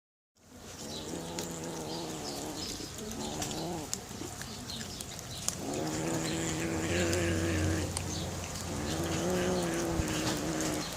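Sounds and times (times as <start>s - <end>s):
cats chewing and crunching: 0.4s - 10.9s
cats growling: 0.7s - 10.9s.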